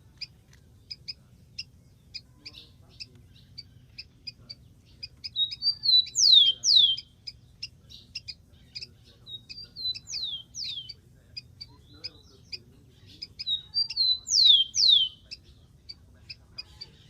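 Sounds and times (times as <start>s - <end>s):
sparrow singing: 0.0s - 17.0s.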